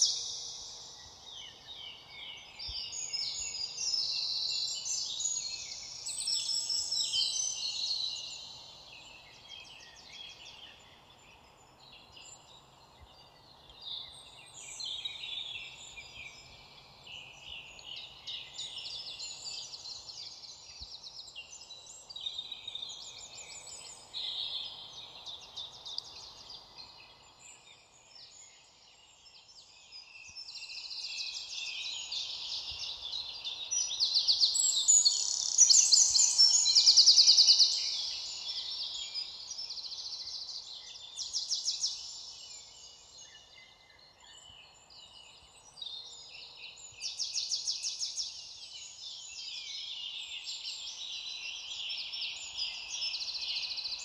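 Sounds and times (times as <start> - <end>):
faint background hiss: 0.0 - 54.0
songbirds trilling and chirping: 0.0 - 54.0.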